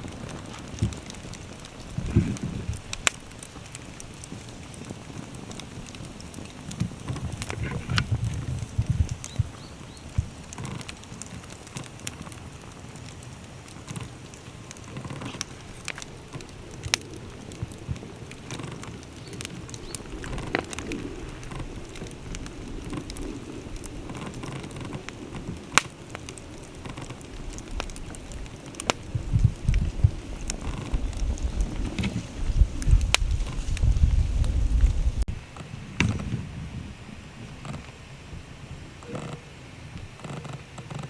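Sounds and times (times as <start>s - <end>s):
wind rumbling on microphone: 0.0s - 41.0s
wood bonfire crackling: 0.0s - 41.0s.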